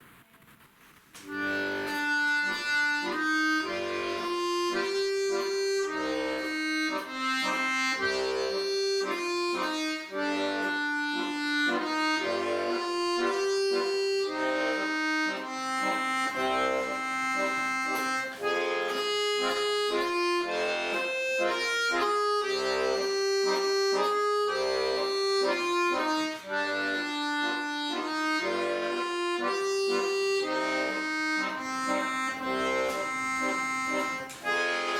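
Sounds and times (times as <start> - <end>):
accordion playing a tune: 1.2 - 34.9.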